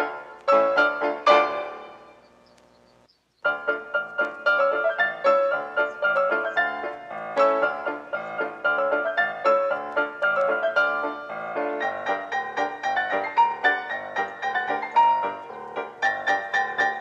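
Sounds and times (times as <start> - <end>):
piano playing quick runs: 0.0 - 2.1, 3.4 - 17.0.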